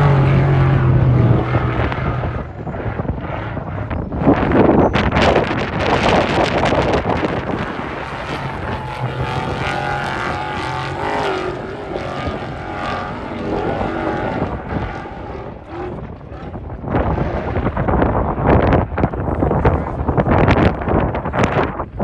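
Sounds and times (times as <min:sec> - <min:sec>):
vehicle engine running: 0:00.0 - 0:21.3
wind noise on microphone: 0:00.0 - 0:22.0.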